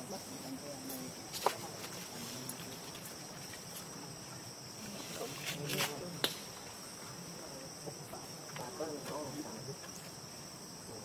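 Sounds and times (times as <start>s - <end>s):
insects droning in trees: 0.0s - 11.0s.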